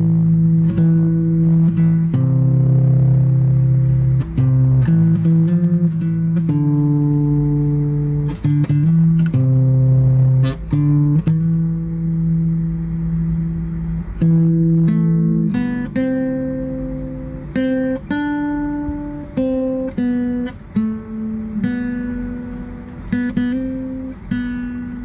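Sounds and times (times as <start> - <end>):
slow plucked guitar: 0.0 - 25.0.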